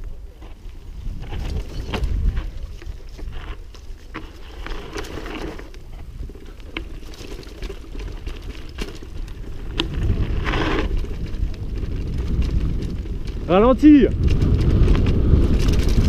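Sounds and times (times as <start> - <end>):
wind buffeting microphone: 0.0 - 5.0, 5.6 - 16.0
bike knocks and rattles: 0.4 - 16.0.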